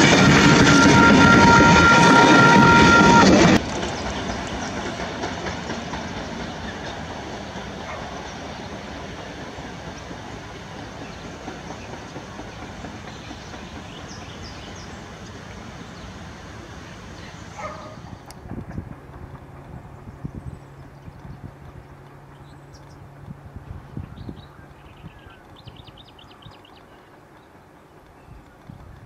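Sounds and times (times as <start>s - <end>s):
distant train: 0.0s - 29.0s
train wheels on rails: 0.0s - 29.0s.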